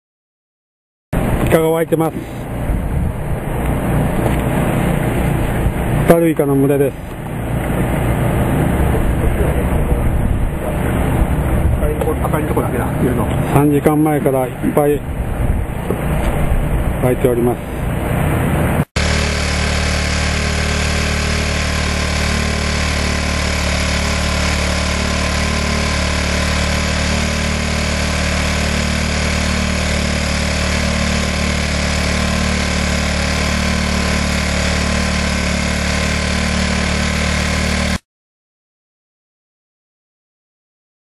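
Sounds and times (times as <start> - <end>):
engine droning: 1.2 - 38.0.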